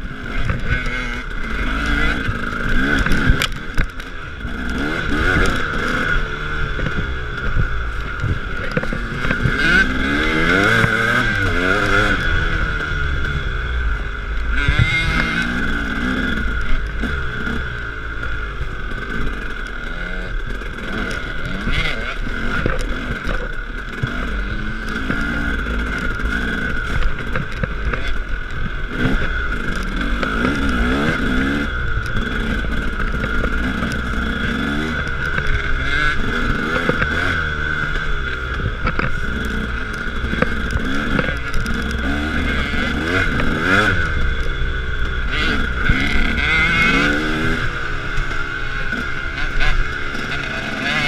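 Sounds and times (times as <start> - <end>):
bike knocking and rattling: 0.0 - 51.0
dirt bike engine revving: 0.0 - 51.0.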